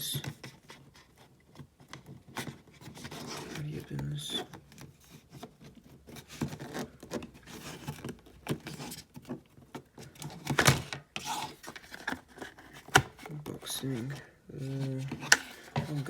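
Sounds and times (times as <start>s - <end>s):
plastic packaging rustling: 0.4s - 16.0s.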